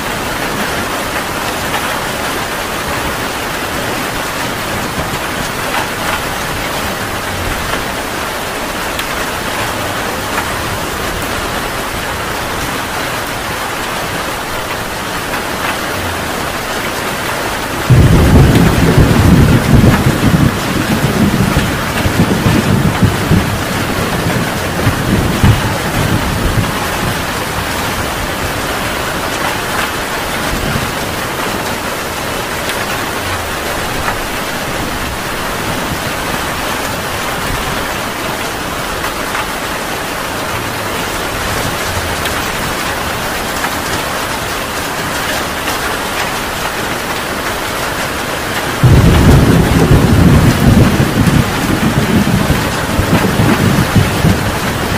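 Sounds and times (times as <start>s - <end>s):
thunder rumbling: 0.0s - 44.7s, 48.6s - 54.9s
heavy rain falling: 0.0s - 54.9s.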